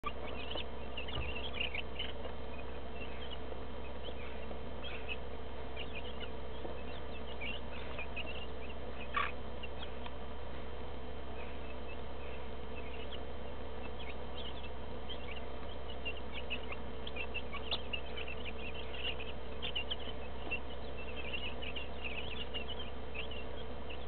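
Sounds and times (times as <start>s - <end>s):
chicks peeping: 0.0s - 24.0s
steady low hum: 0.0s - 24.0s.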